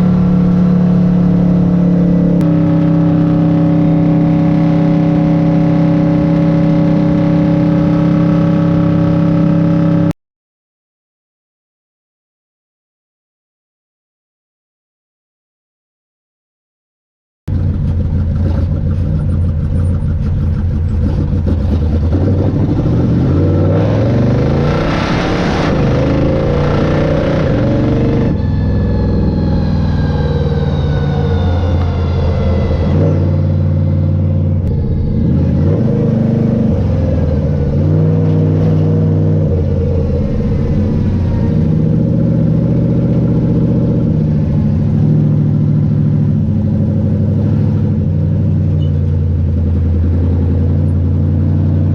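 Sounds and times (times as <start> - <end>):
car engine and exhaust driving: 0.0 - 10.2, 17.5 - 51.9.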